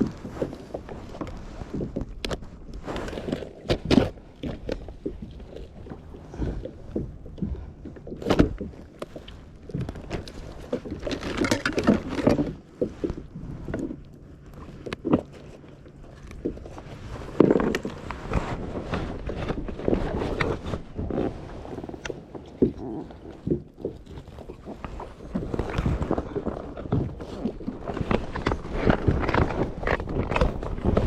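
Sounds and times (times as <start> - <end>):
rustling and scraping: 0.0 - 31.0.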